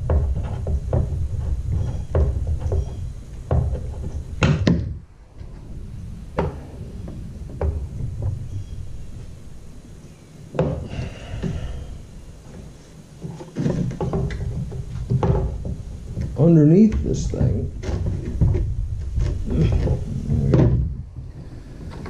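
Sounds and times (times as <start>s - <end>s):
low handling rumble: 0.0s - 22.0s.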